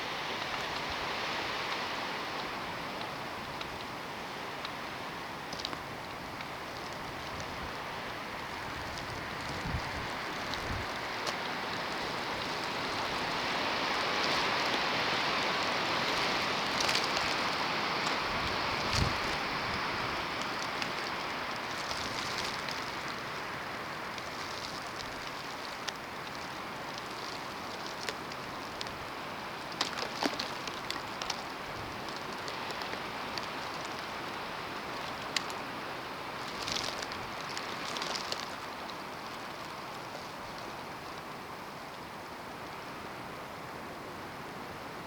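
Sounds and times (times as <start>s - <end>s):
snowstorm hiss: 0.0s - 45.0s
small ticks: 0.3s - 42.0s.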